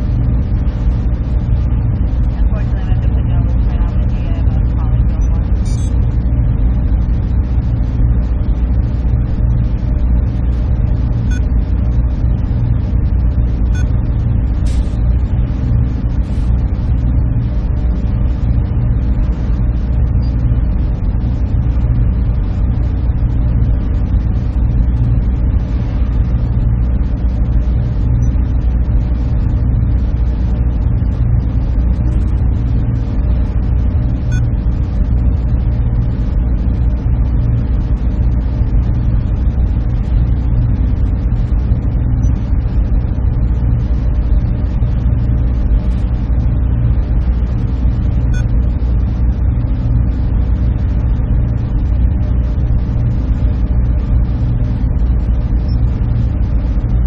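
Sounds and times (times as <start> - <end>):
server cooling fans droning: 0.0 - 57.0.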